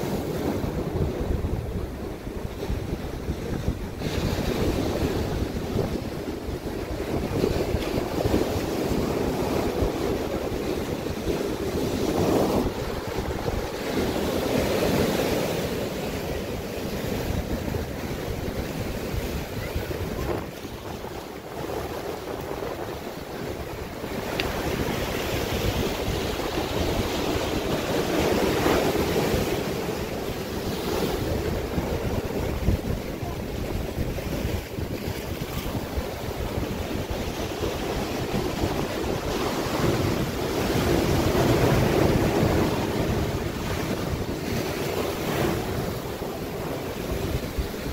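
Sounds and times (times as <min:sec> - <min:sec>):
ocean surf breaking on rocks: 0:00.0 - 0:47.9.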